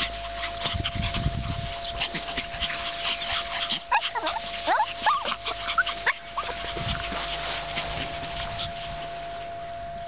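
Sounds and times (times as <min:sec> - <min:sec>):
puppies yipping and whimpering: 0:00.0 - 0:09.8
faint steady tone: 0:00.0 - 0:10.0.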